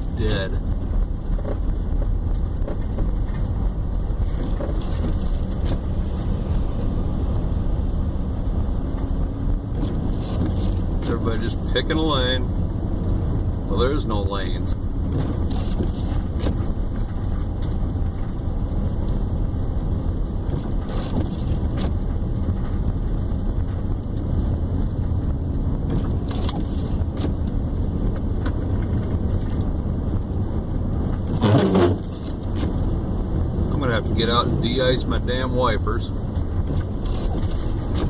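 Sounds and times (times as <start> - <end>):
car driving on slushy road: 0.0 - 38.0.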